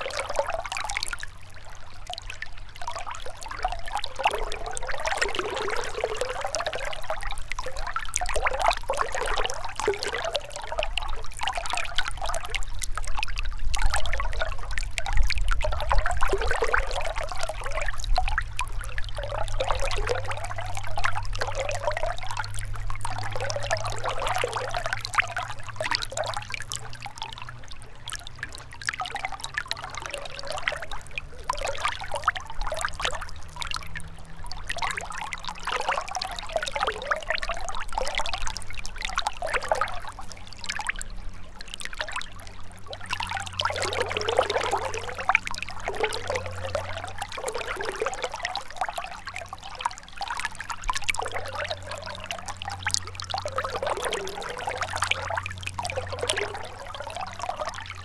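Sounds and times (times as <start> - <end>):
river trickling and gurgling: 0.0 - 58.0.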